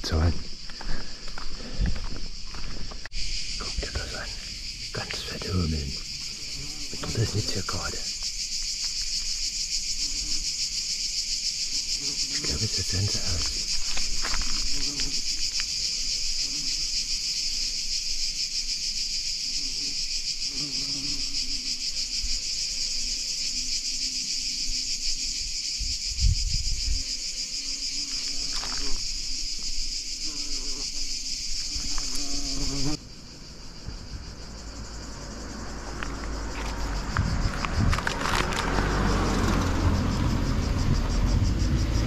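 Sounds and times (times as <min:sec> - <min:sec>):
cicadas buzzing: 0:00.0 - 0:42.0.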